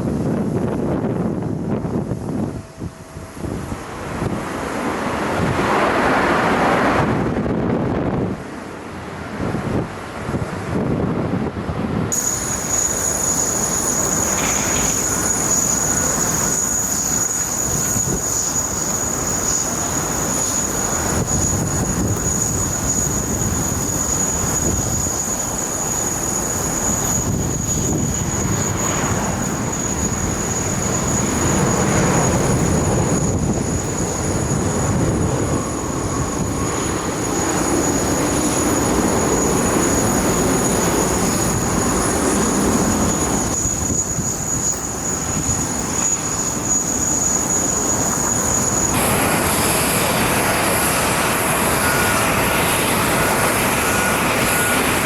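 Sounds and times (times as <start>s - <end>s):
jet engines rumbling: 9.4s - 55.0s.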